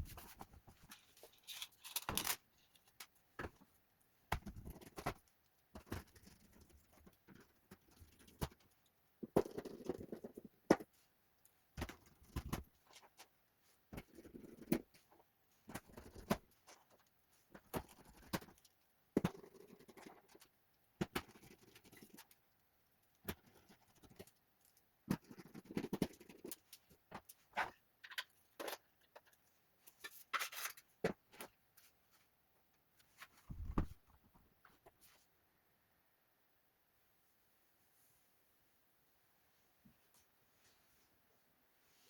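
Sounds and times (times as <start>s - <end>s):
hands handling laptop parts: 0.0s - 22.4s, 23.2s - 35.3s.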